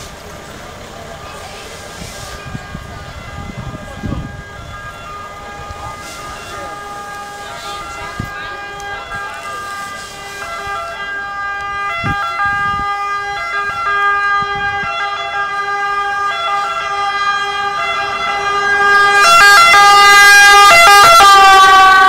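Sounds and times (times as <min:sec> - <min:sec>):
two-tone emergency siren: 0:01.0 - 0:22.0.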